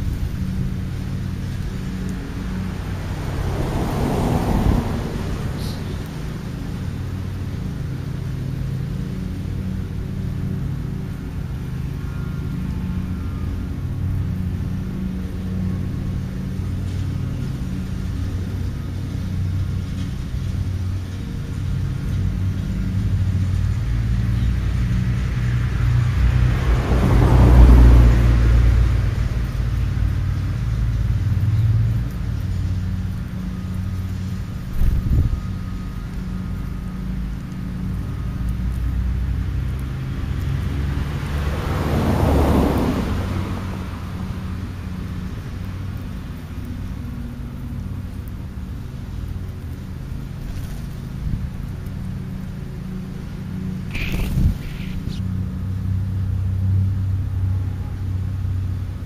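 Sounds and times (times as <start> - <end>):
car passing by: 0.0 - 59.0
low traffic rumble: 0.0 - 59.0
vehicle approaching: 0.0 - 59.0.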